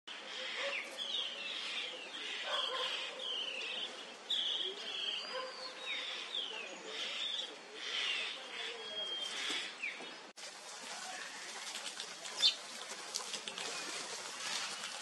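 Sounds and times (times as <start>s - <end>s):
wild birds chirping: 0.1s - 10.4s, 11.0s - 15.0s.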